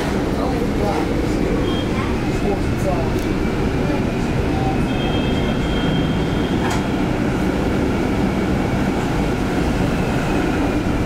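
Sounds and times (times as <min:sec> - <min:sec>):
tram rumble: 0:00.0 - 0:11.0.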